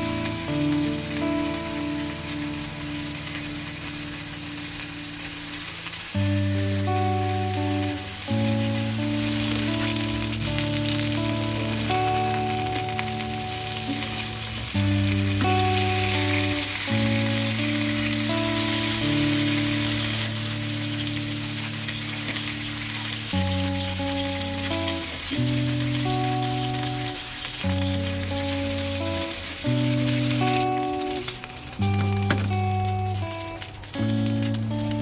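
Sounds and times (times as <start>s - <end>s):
chicken sizzling in frying pan: 0.0s - 35.0s
slow background music: 0.0s - 35.0s.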